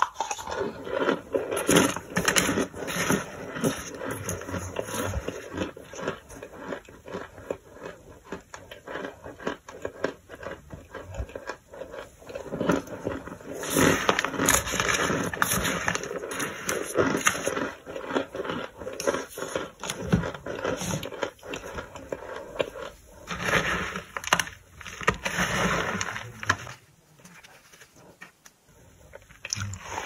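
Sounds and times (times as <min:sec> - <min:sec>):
spoon crunching toasted starch: 0:00.0 - 0:26.5.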